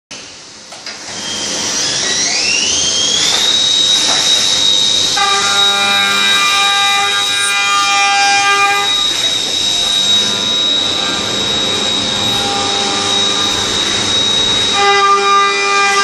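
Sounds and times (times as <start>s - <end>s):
machine spindle whine: 0.8s - 16.0s
steady machine tones: 2.1s - 16.0s.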